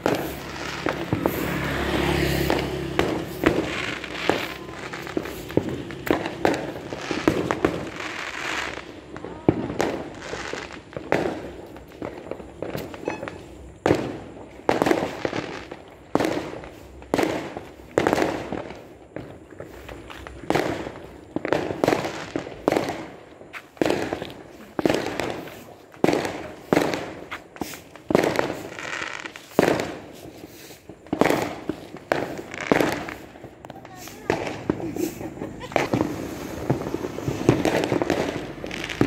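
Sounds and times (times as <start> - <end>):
fireworks bangs: 0.0 - 39.0.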